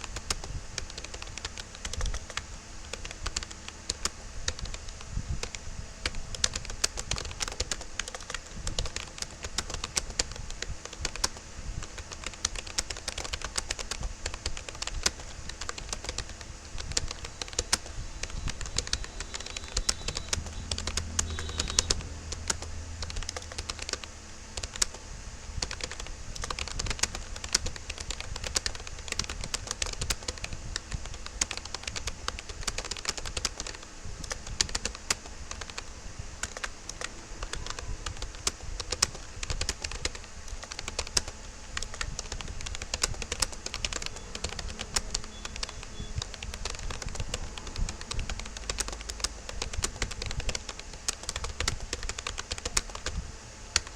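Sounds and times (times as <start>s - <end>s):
fast keyboard typing: 0.0s - 25.0s, 25.6s - 53.9s
faint low rumble: 0.0s - 53.9s.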